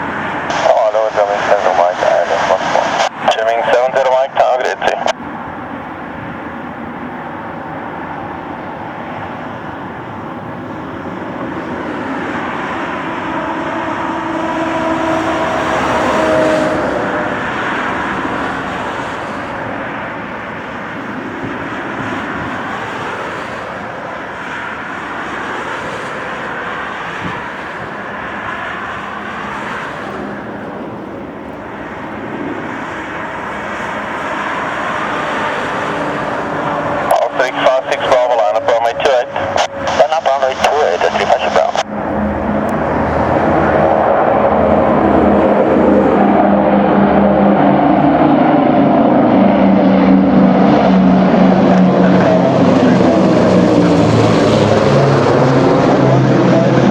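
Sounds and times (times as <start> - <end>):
propeller aircraft engines: 0.0 - 56.9.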